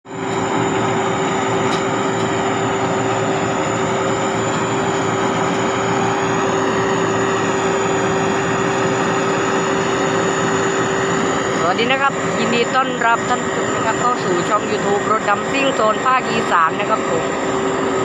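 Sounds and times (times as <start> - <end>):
diesel engine running: 0.1 - 18.0.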